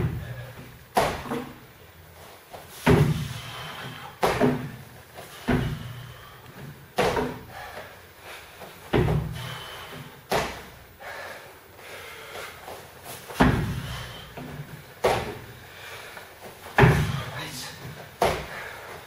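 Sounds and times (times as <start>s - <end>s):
heavy thuds of feet landing: 0.0s - 7.9s, 8.5s - 10.9s, 12.4s - 19.0s.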